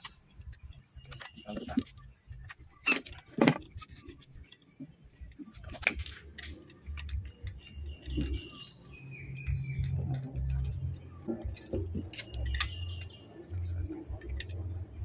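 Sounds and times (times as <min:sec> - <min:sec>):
low rumble of handling noise: 0:00.0 - 0:15.0.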